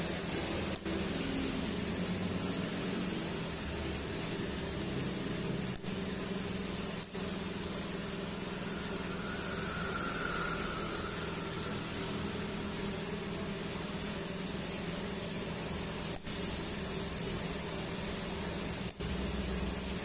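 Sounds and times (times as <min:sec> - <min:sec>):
electrical hum with hiss: 0:00.0 - 0:20.0.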